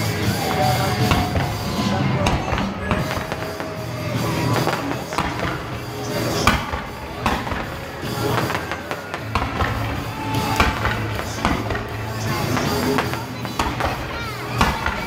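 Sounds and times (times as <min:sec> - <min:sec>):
fireworks bangs and crackles: 0:00.0 - 0:15.0
music: 0:00.0 - 0:15.0.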